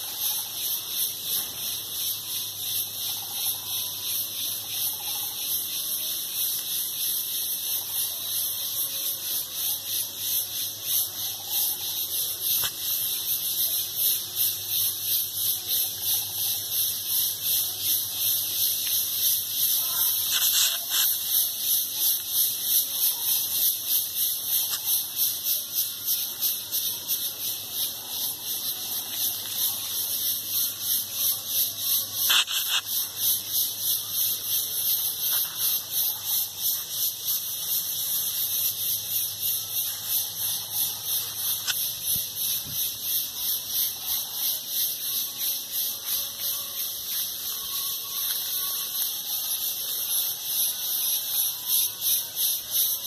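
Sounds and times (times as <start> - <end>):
insects buzzing shrill: 0.0 - 53.0.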